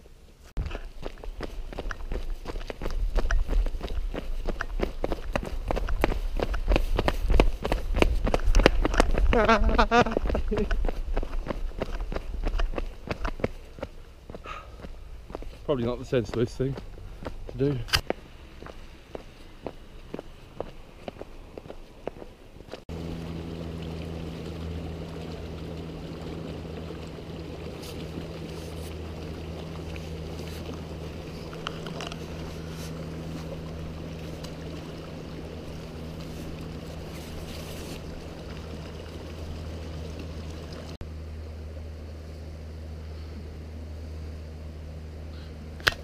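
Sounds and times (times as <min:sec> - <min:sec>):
constant low hum: 0:00.0 - 0:46.0.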